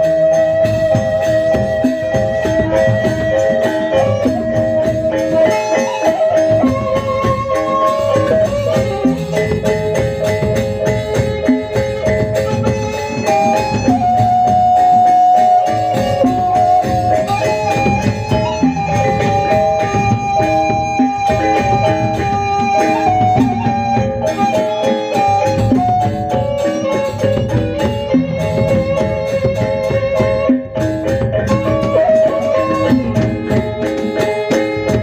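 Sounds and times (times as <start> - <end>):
bamboo flute melody: 0.0 - 35.0
drums beating: 0.0 - 35.0
metal percussion: 0.0 - 35.0.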